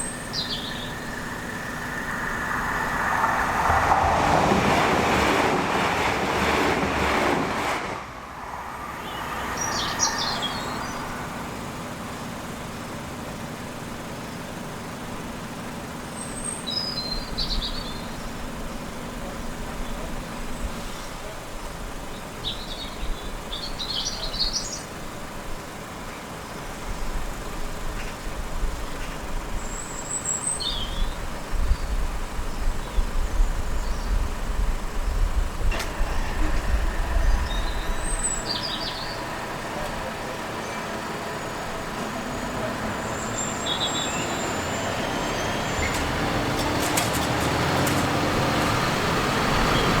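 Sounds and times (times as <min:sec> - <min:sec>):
birds chirping: 0:00.0 - 0:06.1, 0:08.8 - 0:25.0, 0:28.8 - 0:34.3, 0:34.9 - 0:50.0
approaching vehicle noise: 0:00.0 - 0:50.0
road traffic rumbling: 0:00.0 - 0:50.0.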